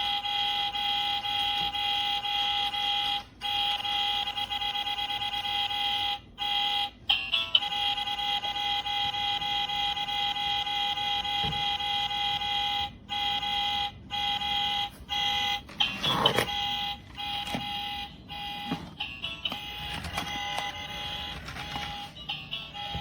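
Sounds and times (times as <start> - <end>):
toy car electronic beeping: 0.0 - 23.0.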